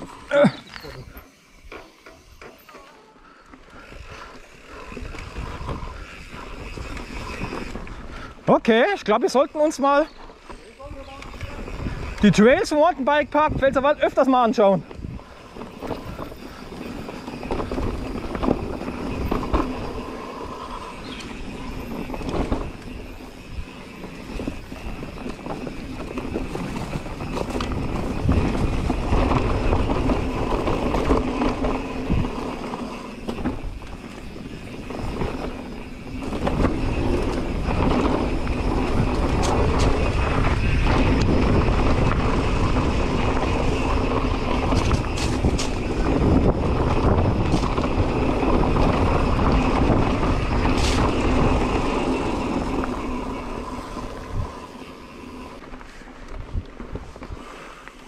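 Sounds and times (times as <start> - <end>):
bike knocking and rattling: 0.0 - 58.0
bike tyres rolling on dirt: 0.0 - 58.0.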